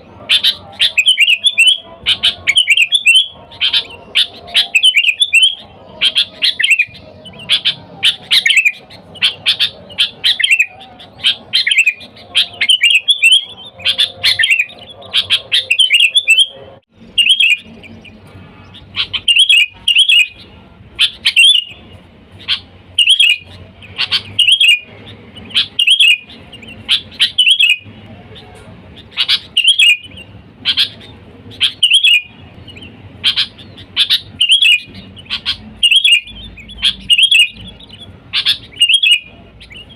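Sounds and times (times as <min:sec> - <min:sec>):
bulbul chirping: 0:00.2 - 0:27.9, 0:29.0 - 0:39.9.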